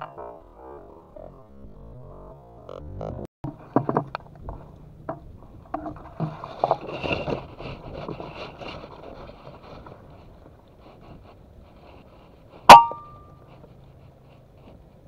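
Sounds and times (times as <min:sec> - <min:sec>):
rustling and scraping: 0:02.6 - 0:15.0.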